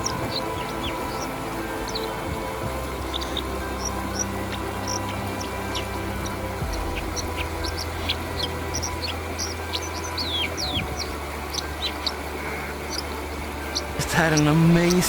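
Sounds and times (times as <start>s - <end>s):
steady low rush: 0.0s - 15.0s.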